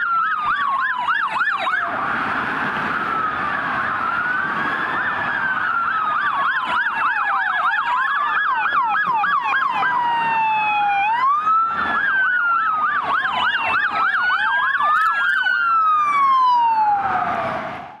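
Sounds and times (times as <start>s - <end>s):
police sirens wailing and yelping: 0.0s - 18.0s.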